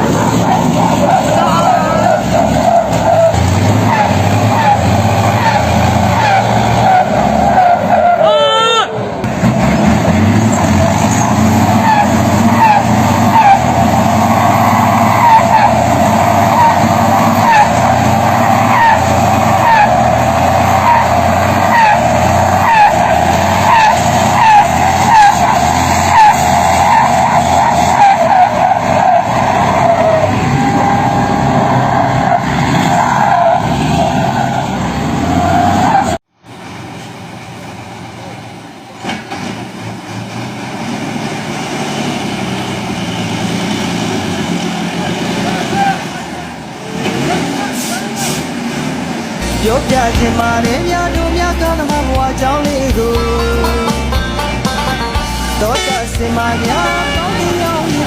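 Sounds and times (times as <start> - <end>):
truck engine under load: 0.0 - 58.0.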